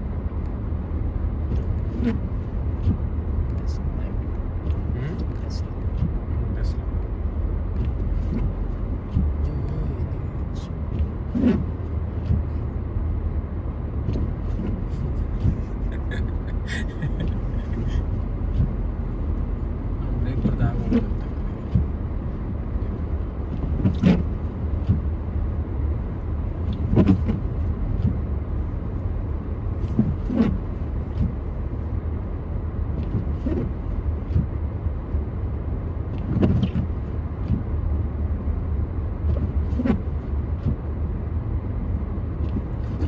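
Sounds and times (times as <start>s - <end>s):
car road rumble: 0.0s - 43.0s.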